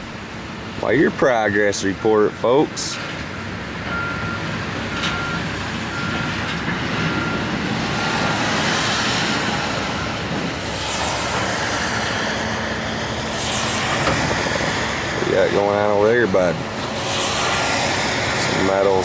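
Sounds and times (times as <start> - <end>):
demolition machinery engine rumble: 0.0 - 19.0.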